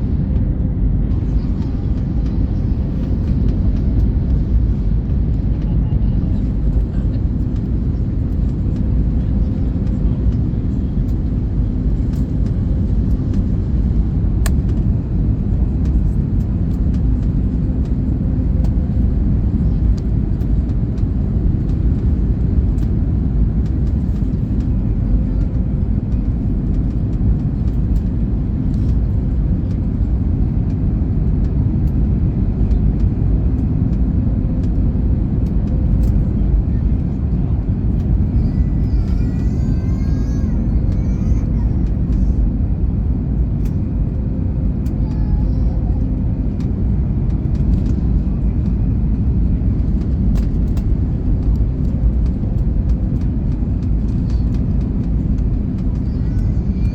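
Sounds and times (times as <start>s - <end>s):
aircraft cabin engine rumble: 0.0s - 56.9s.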